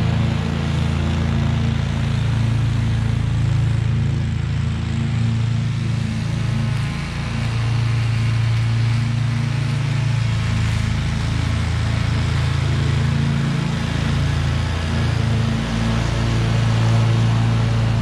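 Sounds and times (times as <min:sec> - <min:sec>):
mower engine running: 0:00.0 - 0:18.0.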